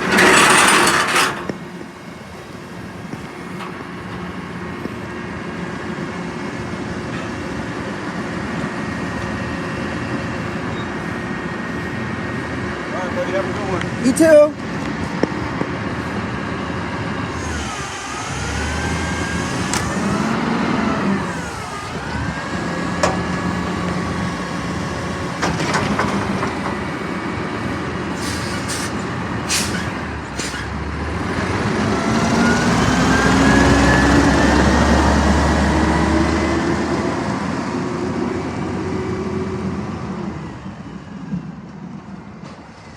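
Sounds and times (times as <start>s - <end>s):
garbage truck engine running: 0.0s - 42.9s.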